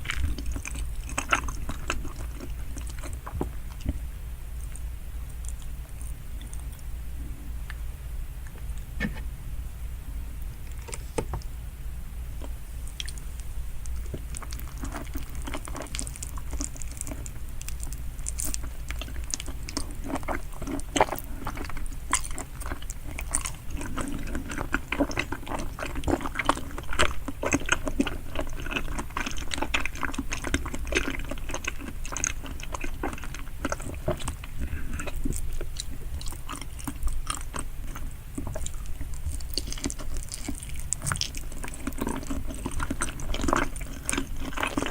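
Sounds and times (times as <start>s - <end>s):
wet chewing sounds: 0.0s - 6.9s, 12.4s - 44.9s.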